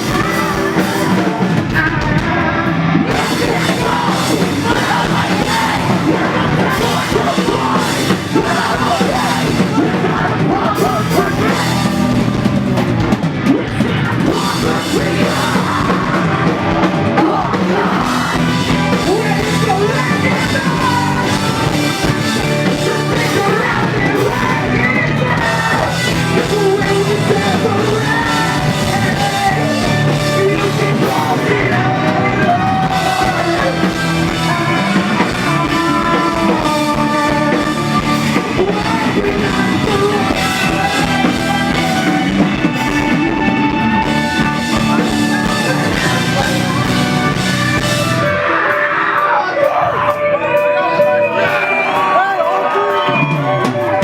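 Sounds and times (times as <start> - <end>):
live rock band playing: 0.0 - 54.0
person singing and yelling: 0.0 - 54.0.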